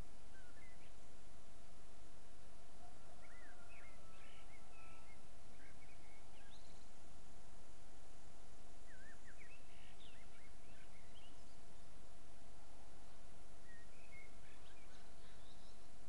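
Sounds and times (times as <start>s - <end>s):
steady hiss: 0.0s - 2.8s, 5.1s - 16.0s.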